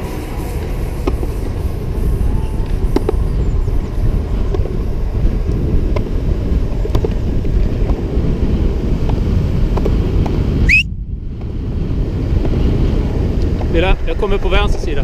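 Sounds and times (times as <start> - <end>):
skateboard wheels rolling on concrete: 0.0 - 15.0
wind buffeting microphone: 0.0 - 15.0.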